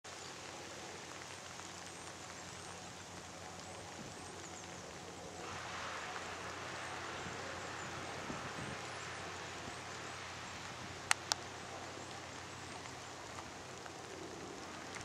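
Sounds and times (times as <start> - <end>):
rain falling on grass and leaves: 0.0 - 15.0.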